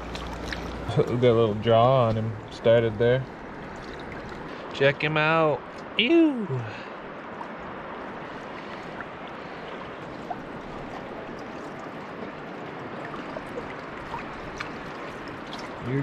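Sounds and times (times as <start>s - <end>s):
water droplets and small splashes: 0.0s - 4.9s, 5.6s - 16.0s
shallow river water running: 0.0s - 16.0s.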